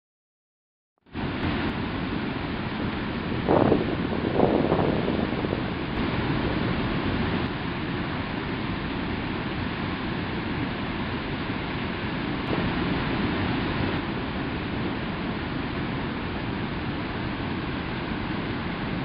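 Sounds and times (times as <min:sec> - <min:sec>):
river water rushing: 0:01.2 - 0:19.0.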